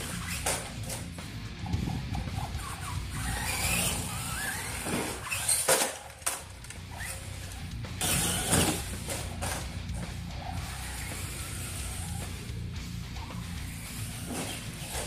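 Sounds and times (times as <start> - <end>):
electric motor whining: 1.8 - 5.6, 6.6 - 15.0.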